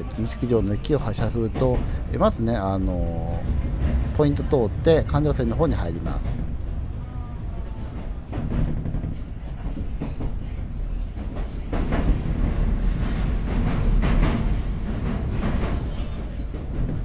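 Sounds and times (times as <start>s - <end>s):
train wheel clacks: 0.0s - 17.0s
train wheels rumbling on rail: 0.0s - 17.0s.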